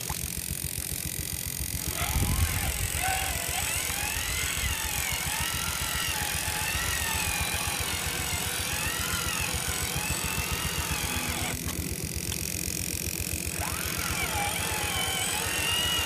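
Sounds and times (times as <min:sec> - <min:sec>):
electric motor and gearbox whining: 0:00.0 - 0:16.0.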